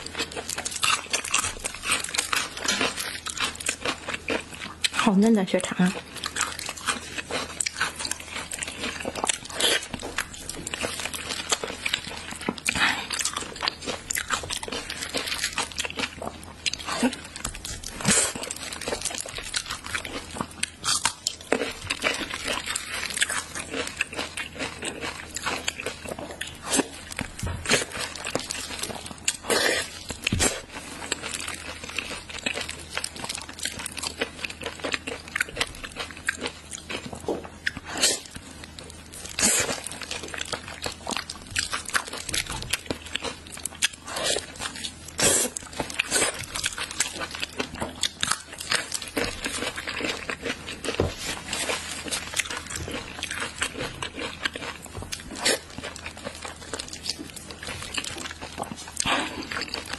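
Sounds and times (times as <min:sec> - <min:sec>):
wet biting and chewing: 0:00.0 - 0:05.1, 0:06.0 - 0:59.9.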